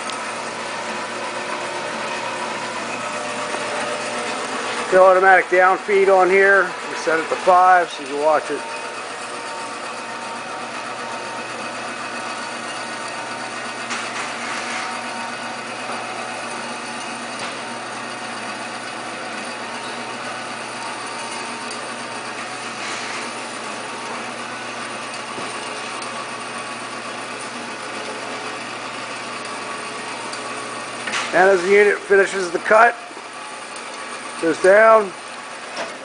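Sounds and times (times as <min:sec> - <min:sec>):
band saw cutting: 0:00.0 - 0:36.0.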